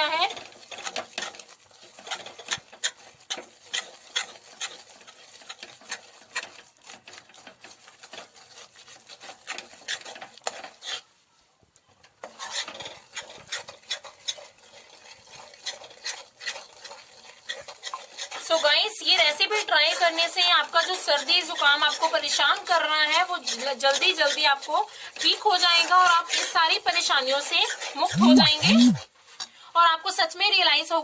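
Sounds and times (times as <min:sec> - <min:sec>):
utensil scraping and stirring flour: 0:00.0 - 0:29.6.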